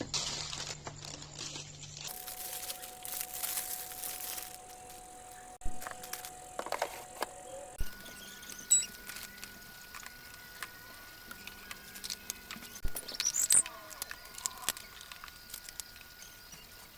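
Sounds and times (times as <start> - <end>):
plastic containers clicking and rustling: 0.0 - 16.9.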